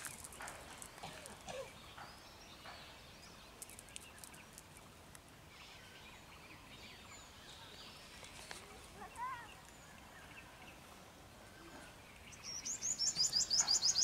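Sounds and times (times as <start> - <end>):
distant birds calling: 0.0 - 14.0.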